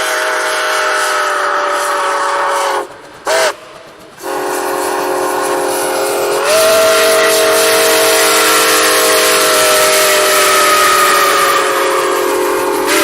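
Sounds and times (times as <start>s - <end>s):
locomotive air horn blasts: 0.0s - 3.6s, 4.2s - 13.0s.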